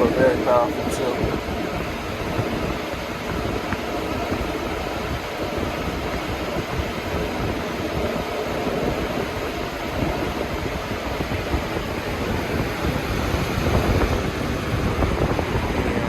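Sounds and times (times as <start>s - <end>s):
box fans blowing air: 0.0s - 16.0s.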